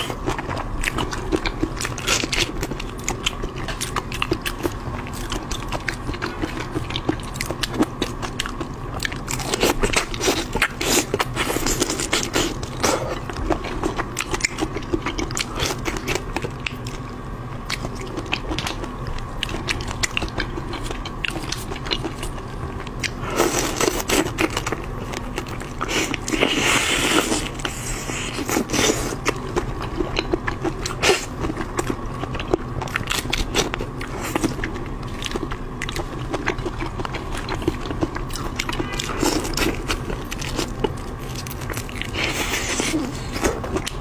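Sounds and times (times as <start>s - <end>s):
wet chewing: 0.0s - 44.0s.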